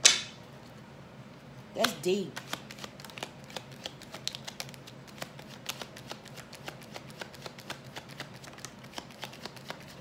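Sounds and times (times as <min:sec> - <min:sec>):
cards being shuffled: 0:01.8 - 0:10.0.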